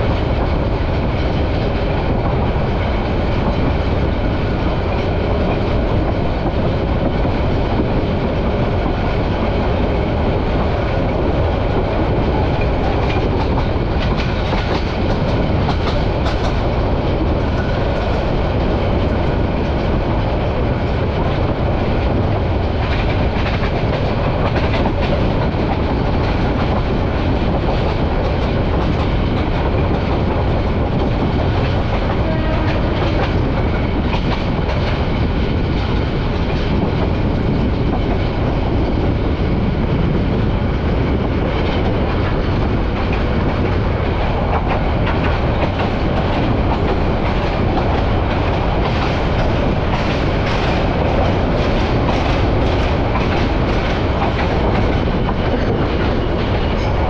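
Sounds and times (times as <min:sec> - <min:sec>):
clickety-clack of rail joints: 0:00.0 - 0:57.0
train wheels rumbling on rails: 0:00.0 - 0:57.0.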